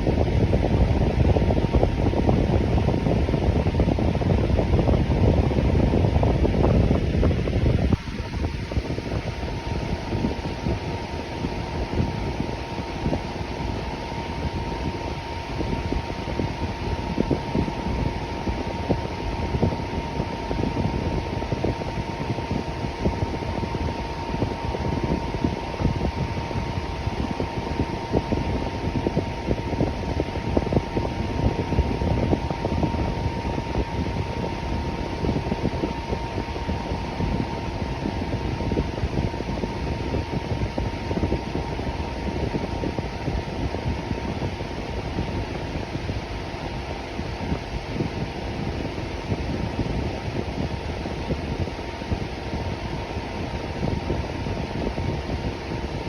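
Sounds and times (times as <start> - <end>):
electric fan whooshing: 0.0 - 56.0
faint steady hum: 0.0 - 56.0.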